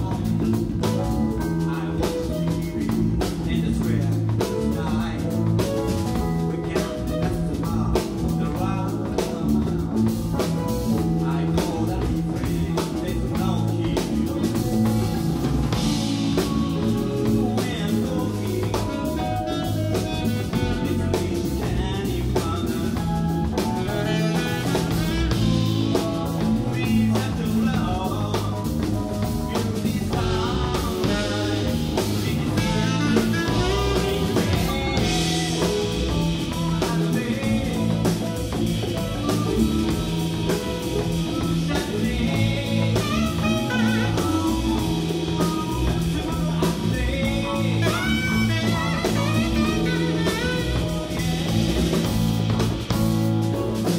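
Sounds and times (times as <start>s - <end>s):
live band playing blues: 0.0s - 53.9s
saxophone lead: 0.0s - 53.9s.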